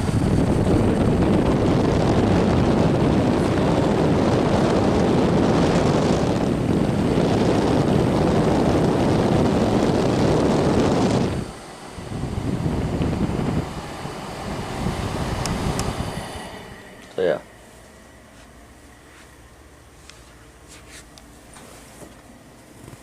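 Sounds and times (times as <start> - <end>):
fan blowing wind noise: 0.0 - 23.0.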